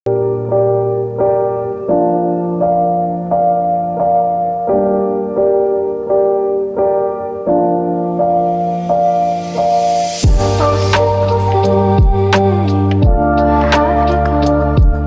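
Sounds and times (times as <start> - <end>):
keyboard melody: 0.1 - 15.0.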